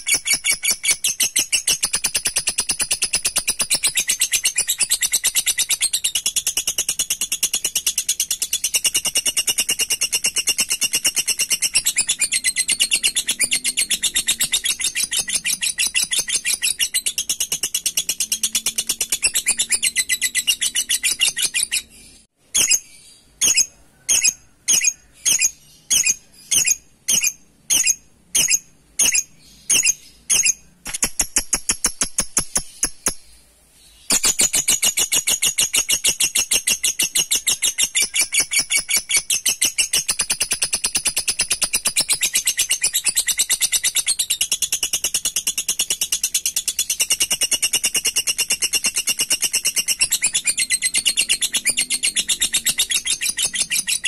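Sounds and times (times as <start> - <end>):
bird chattering trill: 0.0 - 33.2, 34.1 - 54.0
short bird chirps: 0.0 - 44.6.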